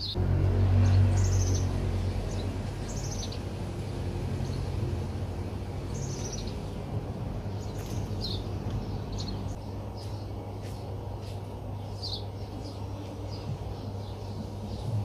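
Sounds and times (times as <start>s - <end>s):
small birds chirping: 0.0s - 0.2s, 0.8s - 15.0s
low outdoor rumble: 0.0s - 15.0s.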